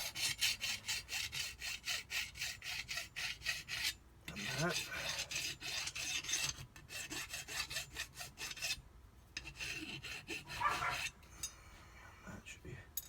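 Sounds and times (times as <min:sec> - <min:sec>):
hand file rasping on metal: 0:00.0 - 0:08.8, 0:09.4 - 0:11.5.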